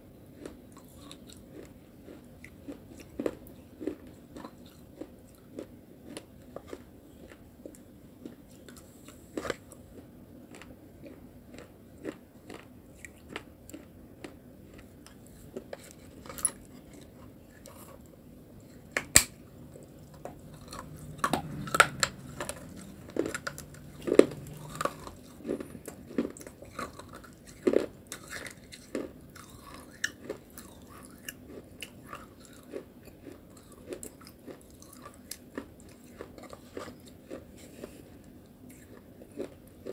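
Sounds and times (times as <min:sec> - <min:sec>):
crisp crunching and chewing: 0:00.4 - 0:39.9.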